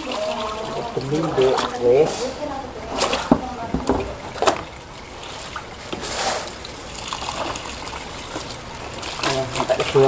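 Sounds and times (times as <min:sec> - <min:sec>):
water running from pipe: 0:00.0 - 0:10.0
water splashing: 0:00.0 - 0:10.0.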